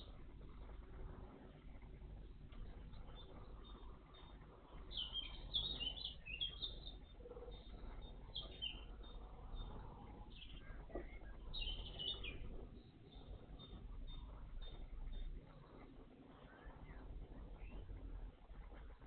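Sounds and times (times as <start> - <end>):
small songbirds chirping: 0.0 - 19.0.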